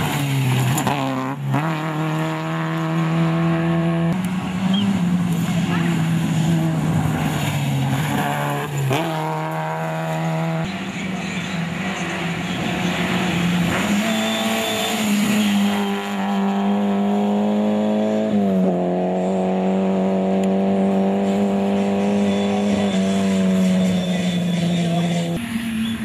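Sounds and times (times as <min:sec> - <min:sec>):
rally car engine at high revs: 0:00.0 - 0:26.0.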